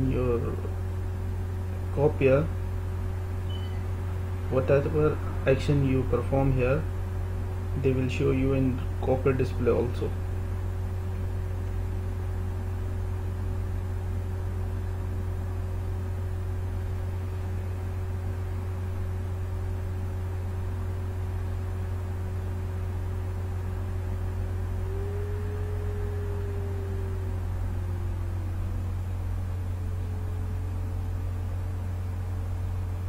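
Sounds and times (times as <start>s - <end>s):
faint steady whine: 0.0s - 33.0s
steady low hum: 0.0s - 33.0s.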